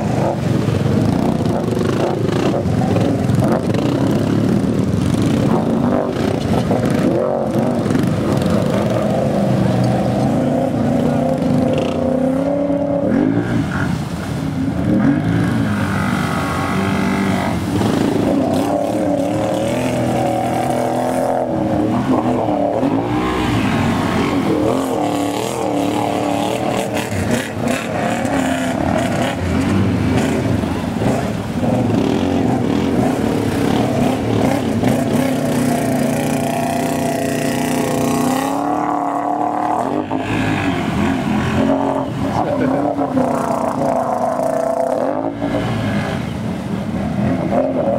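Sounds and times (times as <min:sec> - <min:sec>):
atv engines revving: 0:00.0 - 0:47.9
water churning and splashing: 0:00.0 - 0:47.9.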